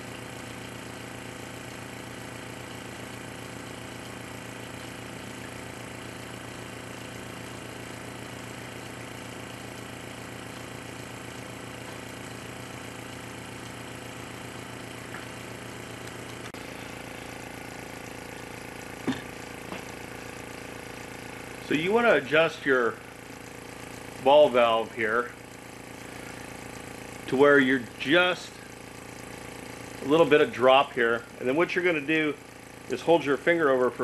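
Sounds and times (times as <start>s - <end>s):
air compressor humming: 0.0s - 34.0s.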